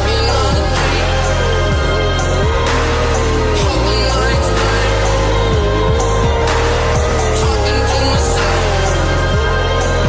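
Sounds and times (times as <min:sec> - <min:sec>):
deep bass line: 0:00.0 - 0:10.0
falling bass drops: 0:00.0 - 0:10.0
wavering synth melody: 0:00.0 - 0:10.0.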